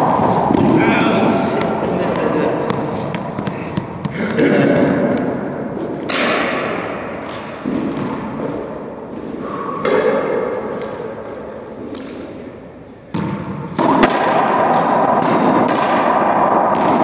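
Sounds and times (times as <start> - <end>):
racquetball hits echoing: 0.0 - 17.0.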